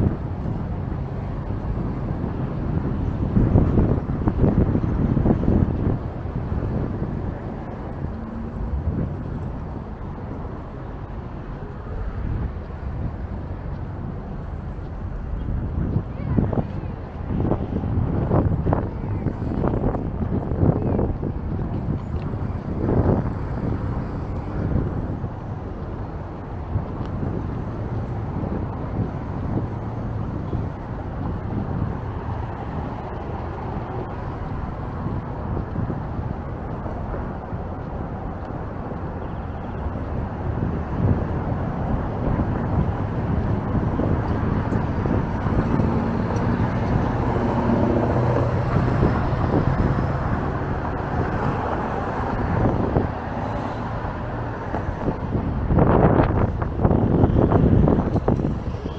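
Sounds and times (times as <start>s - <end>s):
road traffic passing: 0.0s - 58.9s
wind on microphone: 0.0s - 58.9s.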